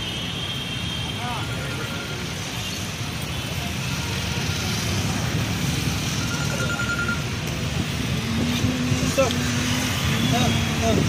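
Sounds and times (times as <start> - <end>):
rumble of road traffic: 0.0 - 11.0.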